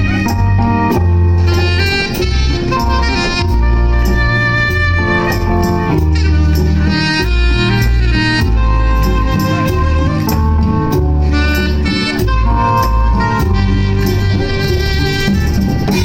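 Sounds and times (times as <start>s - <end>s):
bass line: 0.0s - 16.0s
soprano saxophone jazz melody: 0.0s - 16.0s.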